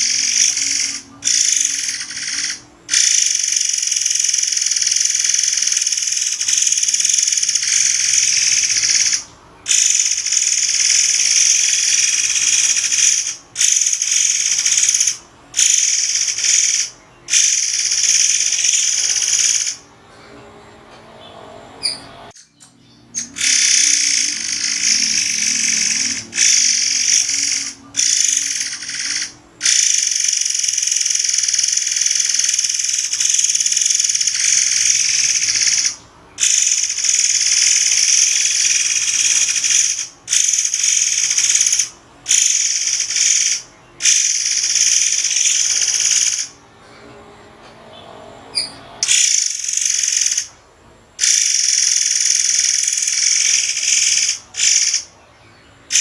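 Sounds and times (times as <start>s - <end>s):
bird song buzzing trill: 0.0s - 19.9s, 21.2s - 46.6s, 47.9s - 50.6s, 51.2s - 56.0s.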